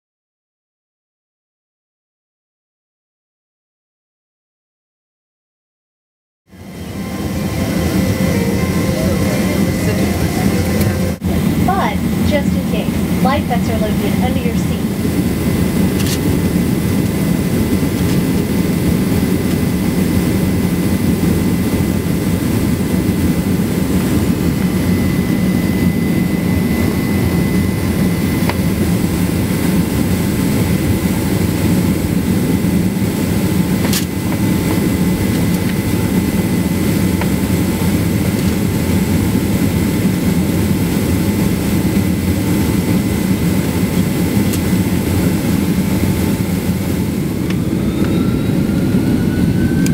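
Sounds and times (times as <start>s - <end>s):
jet engine rumble: 6.5s - 49.9s
thin steady whine: 6.5s - 49.9s.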